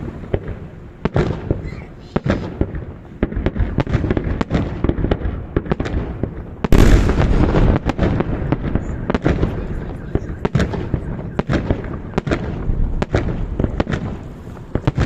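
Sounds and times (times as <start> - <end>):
crackling firework burst: 0.0 - 15.0
fireworks bursts and pops: 0.0 - 15.0.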